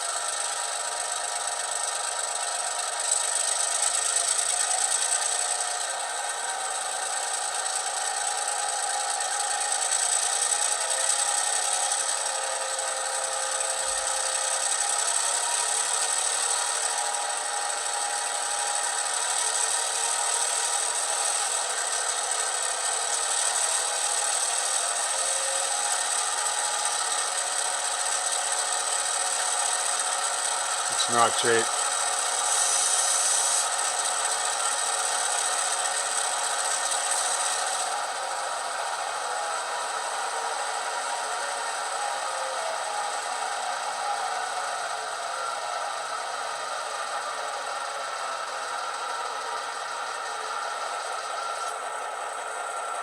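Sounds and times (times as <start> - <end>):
model train diesel engine sound: 0.0 - 53.0.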